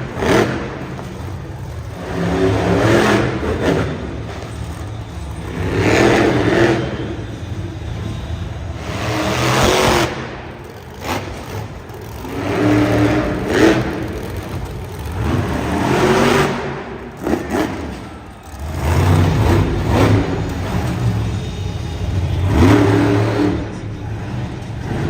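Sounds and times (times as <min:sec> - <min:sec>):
truck engine revving hard: 0:00.0 - 0:25.0.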